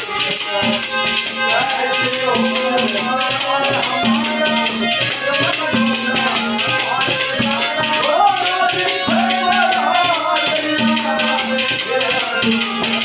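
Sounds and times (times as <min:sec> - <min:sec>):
hand drum beat: 0:00.0 - 0:13.0
harmonium melody: 0:00.0 - 0:13.0
jingling rattle rhythm: 0:00.0 - 0:13.0.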